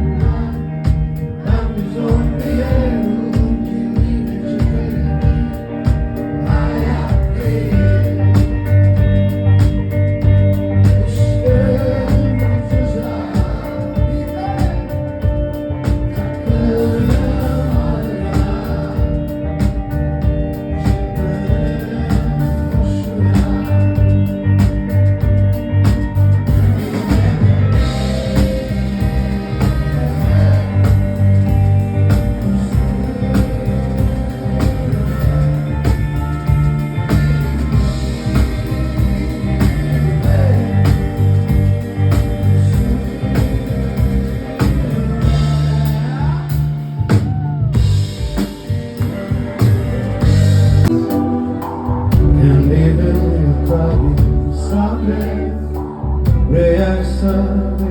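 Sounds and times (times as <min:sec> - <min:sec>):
drum kit beating: 0:00.0 - 0:54.7, 0:56.3 - 0:56.6
rock band playing: 0:00.0 - 0:57.9.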